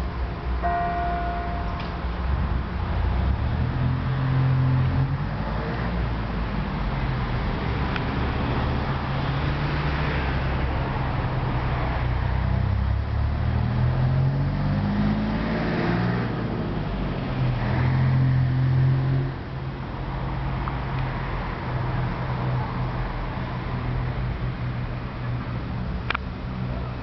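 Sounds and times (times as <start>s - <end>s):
motor vehicles passing: 0.0s - 27.0s
steady road hiss: 0.0s - 27.0s.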